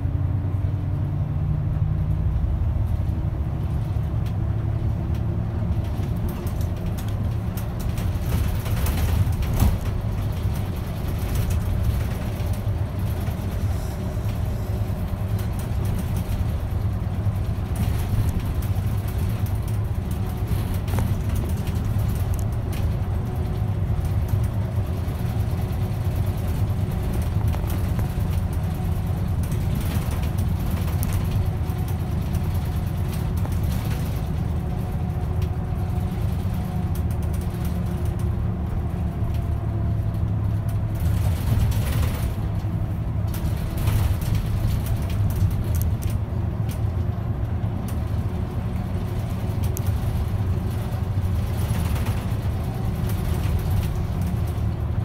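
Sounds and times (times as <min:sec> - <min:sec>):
bus engine and road drone: 0:00.0 - 0:55.0.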